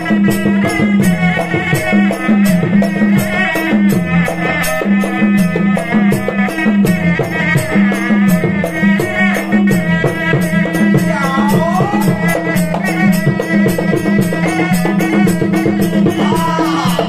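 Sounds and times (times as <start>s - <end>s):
double-reed shawm melody: 0.0s - 17.0s
percussion beat: 0.0s - 17.0s.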